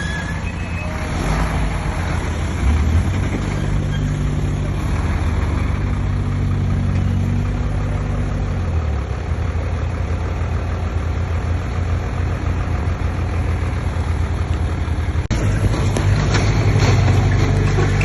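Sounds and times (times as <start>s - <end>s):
diesel engine droning: 0.0s - 18.0s
engine clatter: 0.0s - 18.0s.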